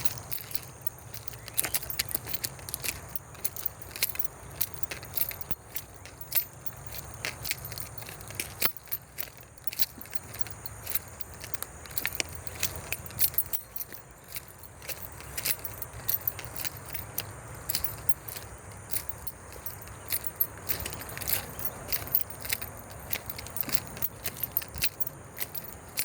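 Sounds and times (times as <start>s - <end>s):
distant traffic rumble: 0.0s - 26.0s
footsteps clicking: 0.0s - 26.0s
jangle while walking: 0.0s - 26.0s.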